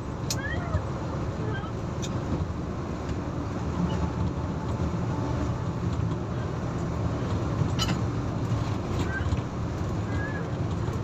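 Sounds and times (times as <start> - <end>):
bus engine and tyre rumble: 0.0 - 11.0.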